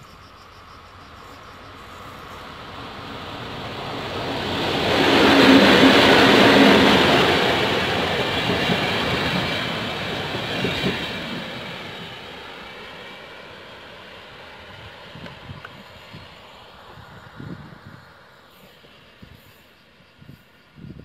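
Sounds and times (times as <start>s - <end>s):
train passing: 0.1s - 20.8s.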